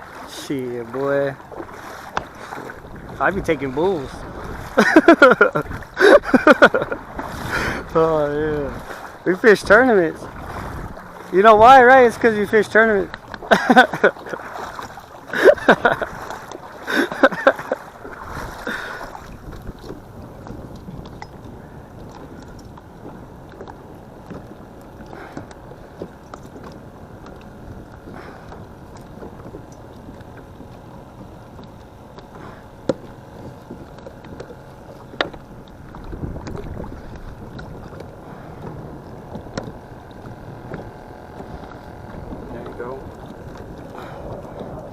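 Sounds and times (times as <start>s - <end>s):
water rumbling: 0.0s - 44.9s
wind: 0.0s - 44.9s.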